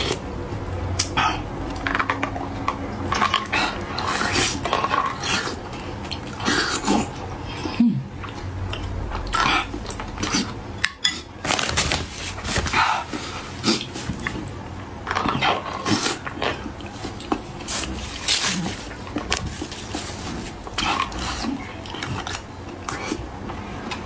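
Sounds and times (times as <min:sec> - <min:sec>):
close-up eating sounds: 0:00.0 - 0:24.0.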